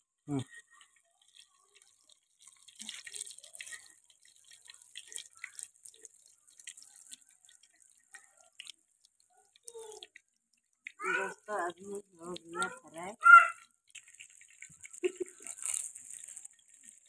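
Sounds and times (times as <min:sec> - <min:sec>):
fish frying in oil: 0:00.5 - 0:17.0.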